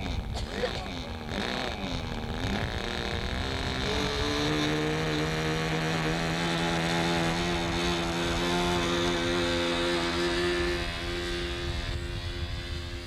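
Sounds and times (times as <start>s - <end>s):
model airplane engine buzzing: 0.0s - 13.0s.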